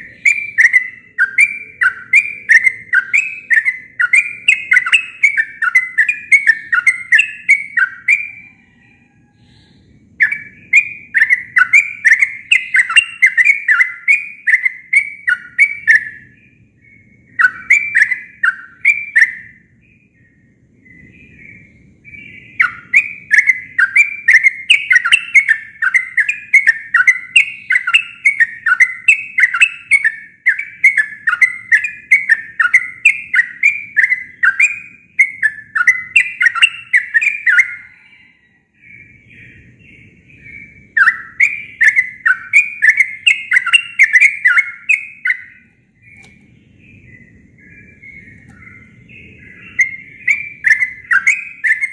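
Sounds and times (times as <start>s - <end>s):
bulbul singing bubbly whistles: 0.0s - 8.8s, 10.2s - 38.2s, 38.9s - 46.2s, 46.8s - 51.9s.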